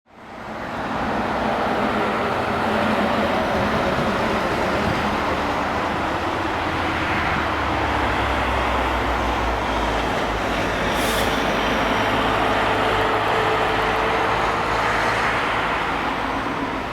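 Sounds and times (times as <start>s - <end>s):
jet engines roaring: 0.9s - 16.9s.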